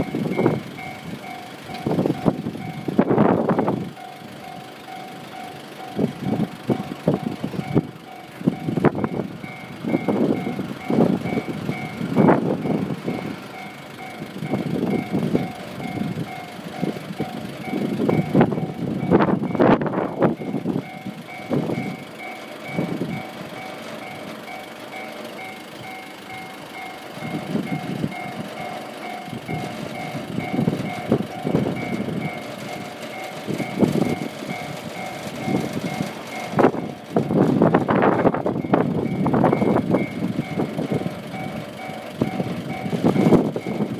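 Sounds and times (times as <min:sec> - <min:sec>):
train wheels clattering on rails: 0:00.0 - 0:43.9
two-tone crossing alarm clang: 0:00.0 - 0:43.9.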